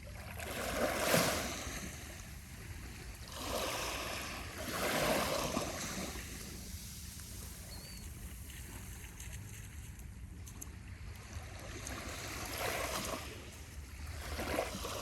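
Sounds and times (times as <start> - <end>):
small waves washing up beach: 0.0 - 9.8, 10.8 - 15.0.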